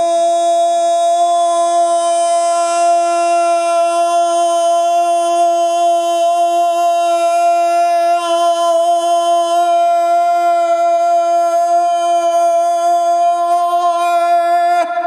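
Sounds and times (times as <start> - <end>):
throat-singing drone: 0.0 - 15.0.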